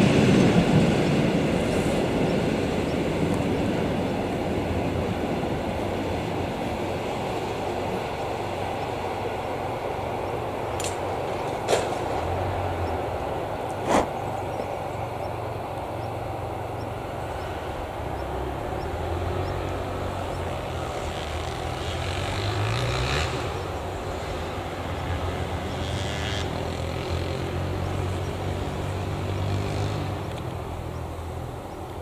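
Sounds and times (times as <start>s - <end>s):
low engine hum: 0.0s - 32.0s
outdoor noise: 0.0s - 32.0s.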